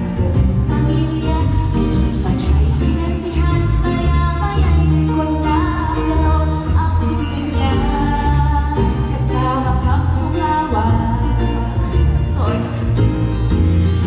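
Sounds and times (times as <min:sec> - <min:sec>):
woman singing into microphone: 0:00.0 - 0:13.3
backing track with strong bass: 0:00.0 - 0:14.0.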